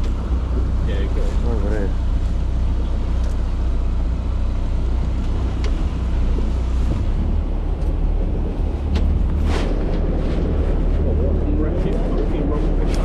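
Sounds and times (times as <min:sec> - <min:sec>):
boat engine humming: 0:00.0 - 0:13.0
wind buffeting microphone: 0:00.0 - 0:13.0.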